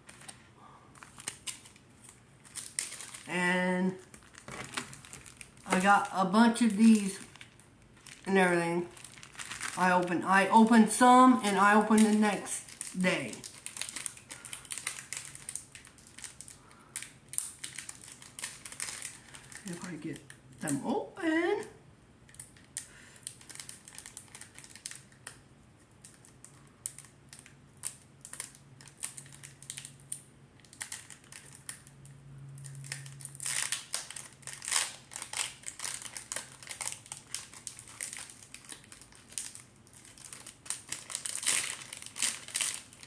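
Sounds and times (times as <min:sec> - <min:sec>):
plastic wrapper crinkling: 0:00.0 - 0:20.9, 0:21.6 - 0:43.0.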